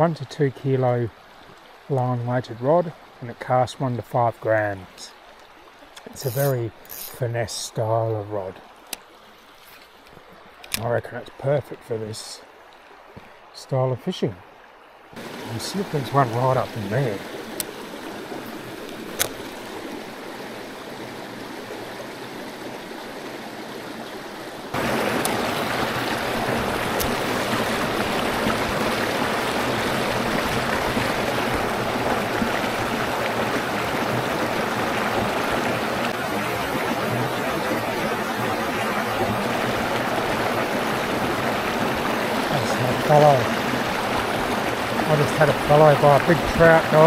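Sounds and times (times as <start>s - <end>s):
water running over rocks: 0.0s - 47.0s.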